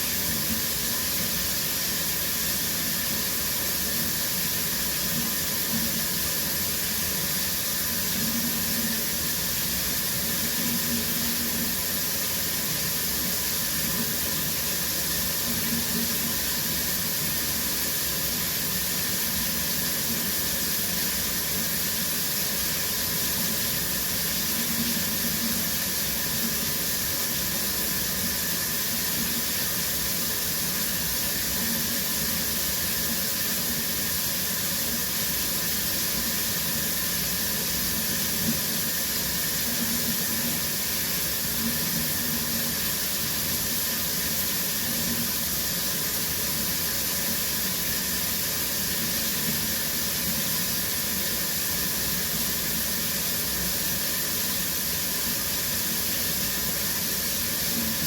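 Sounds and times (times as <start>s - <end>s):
shower water running: 0.0s - 58.0s.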